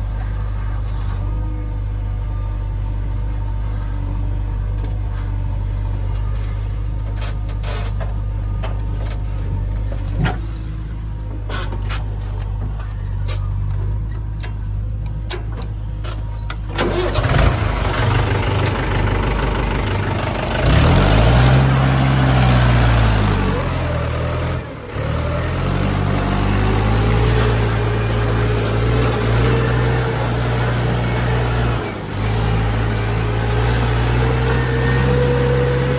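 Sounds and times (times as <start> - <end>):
diesel engine working hard: 0.0 - 35.9.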